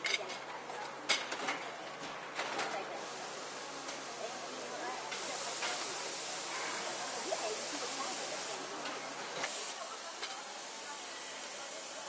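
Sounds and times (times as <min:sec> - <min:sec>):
factory ambience hiss: 0:02.3 - 0:12.0.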